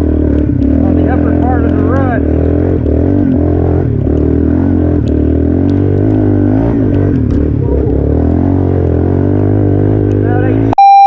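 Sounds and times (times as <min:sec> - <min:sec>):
atv engine running: 0:00.0 - 0:10.8.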